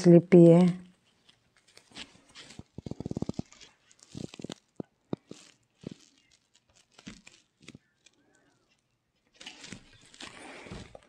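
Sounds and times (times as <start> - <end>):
cloth rustling: 0.8 - 11.0.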